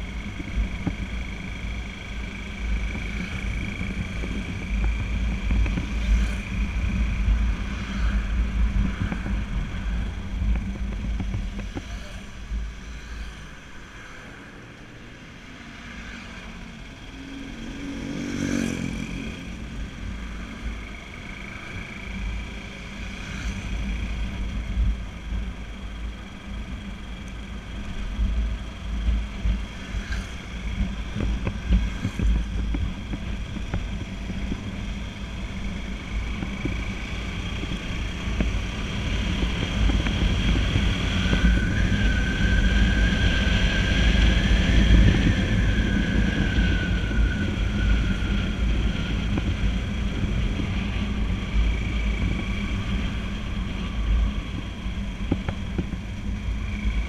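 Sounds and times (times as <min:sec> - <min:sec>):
wind rumble on microphone: 0:00.0 - 0:14.1, 0:16.4 - 0:57.0
motorcycle engine running: 0:00.0 - 0:57.0
rising and falling whine: 0:00.0 - 0:57.0.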